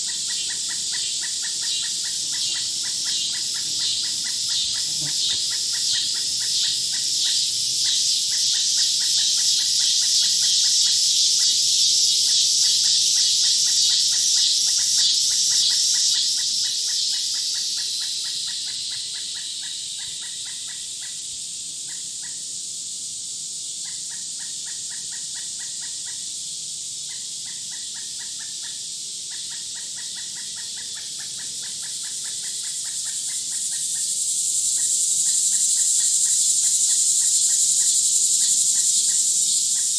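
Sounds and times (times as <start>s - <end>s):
high-pitched insect buzz: 0.0s - 39.9s.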